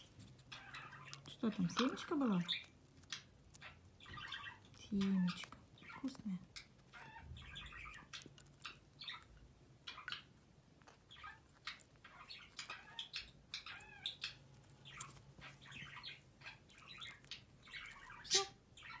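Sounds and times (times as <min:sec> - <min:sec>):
beak clicking and scraping: 0:00.0 - 0:19.0
parrot chirping softly: 0:00.0 - 0:19.0.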